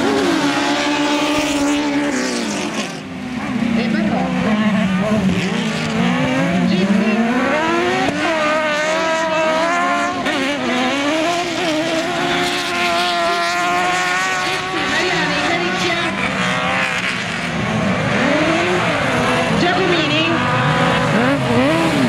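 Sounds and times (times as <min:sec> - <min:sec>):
racing buggy engines revving: 0:00.0 - 0:22.0.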